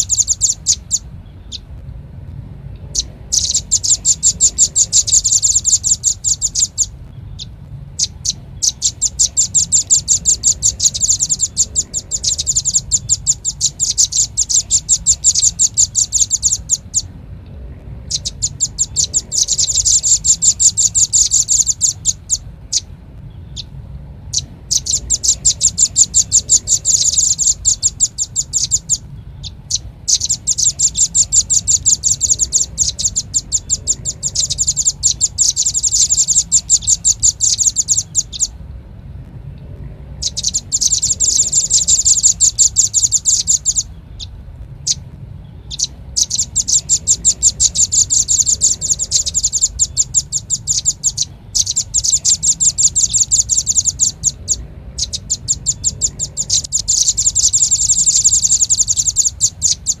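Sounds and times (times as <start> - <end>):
bird call rapid high chips: 0.0 - 1.7, 2.8 - 17.1, 18.0 - 23.7, 24.3 - 38.6, 40.2 - 60.0
faint low hum: 0.0 - 60.0.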